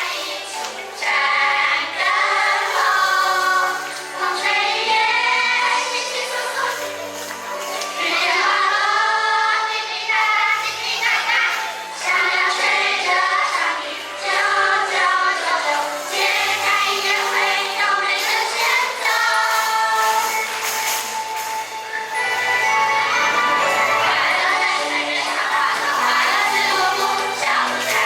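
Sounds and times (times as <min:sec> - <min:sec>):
group of voices singing: 0:00.0 - 0:28.0
instrumental accompaniment: 0:00.1 - 0:28.0.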